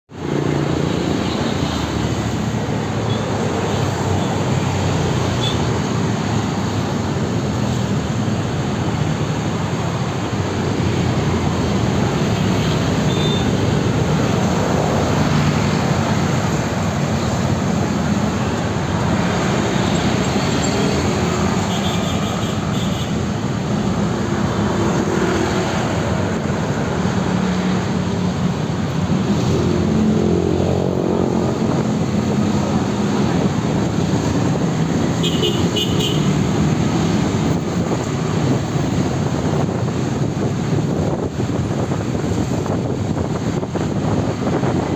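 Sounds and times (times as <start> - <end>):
road traffic passing: 0.1 - 44.9.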